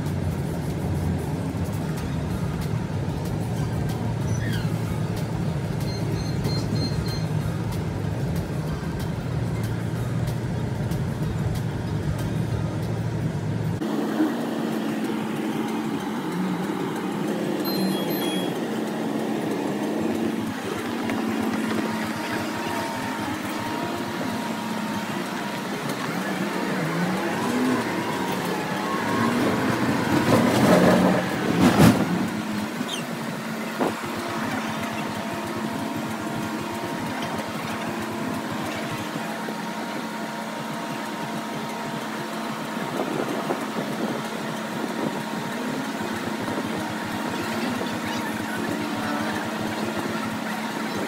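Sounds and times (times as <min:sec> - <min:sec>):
bus engine hum: 0:00.0 - 0:51.0.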